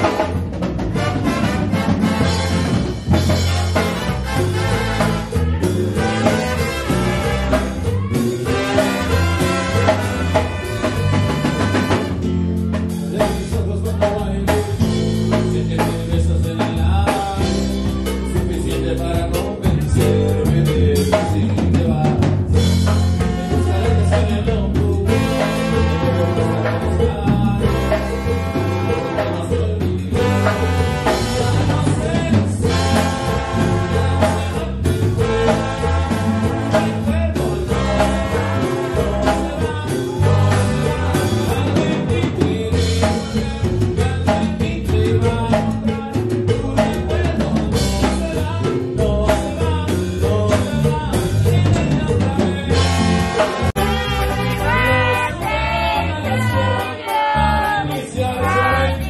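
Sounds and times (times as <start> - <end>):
live band playing upbeat song: 0.0 - 59.0
man singing into microphone: 3.1 - 59.0.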